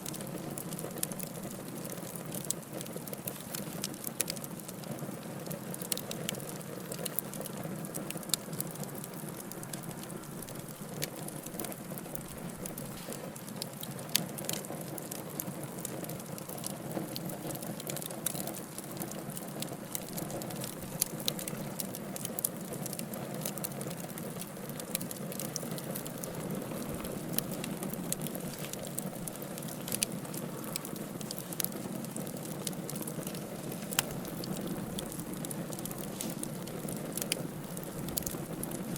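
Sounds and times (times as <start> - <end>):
burning logs crackling and popping: 0.0 - 38.9
rustle of flames: 0.0 - 38.9.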